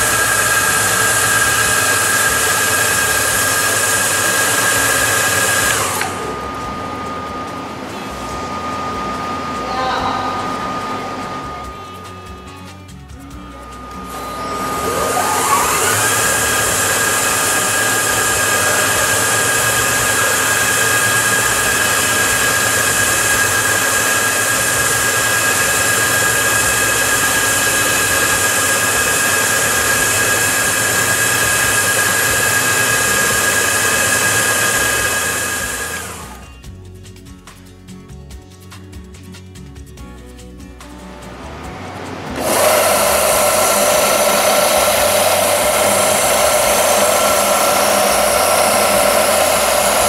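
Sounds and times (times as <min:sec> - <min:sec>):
polishing machine whine: 0:00.0 - 0:36.6, 0:41.1 - 0:50.0.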